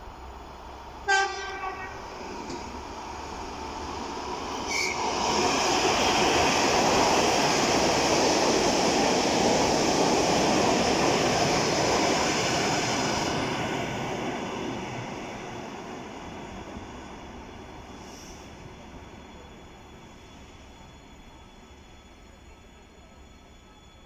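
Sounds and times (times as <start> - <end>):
train wheels rolling on rails: 0.6 - 22.5.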